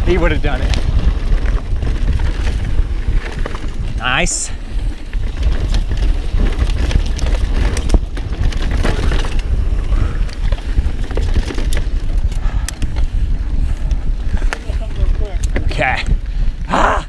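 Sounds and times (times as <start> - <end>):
low rumble from riding: 0.0 - 16.7
bike rattling: 0.0 - 17.0
wind on microphone: 0.0 - 17.0.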